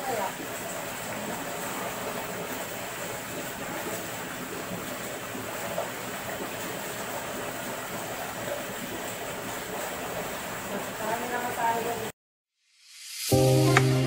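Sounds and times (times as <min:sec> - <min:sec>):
water splashing and churning: 0:00.0 - 0:12.1.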